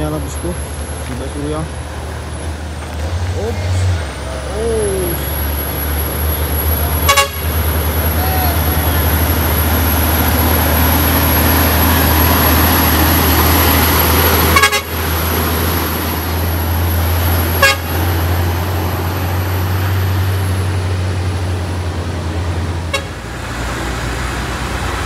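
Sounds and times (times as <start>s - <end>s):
heavy vehicle engine under load: 0.0s - 25.0s.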